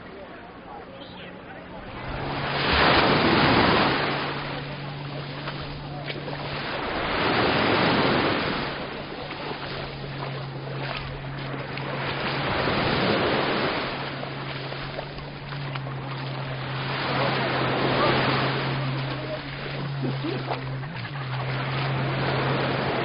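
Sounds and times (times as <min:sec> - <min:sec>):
sea waves on sandy beach: 0:00.0 - 0:23.0.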